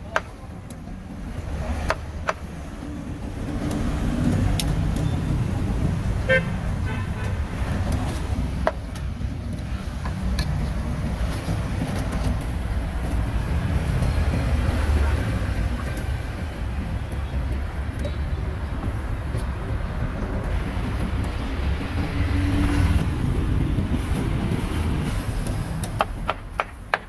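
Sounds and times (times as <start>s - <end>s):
rumble of passing vehicles: 0.0s - 27.0s.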